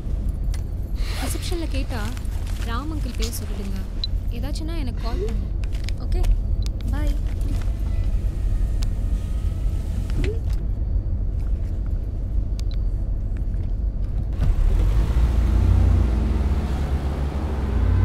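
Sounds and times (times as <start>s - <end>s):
car road rumble inside cabin: 0.0s - 18.0s.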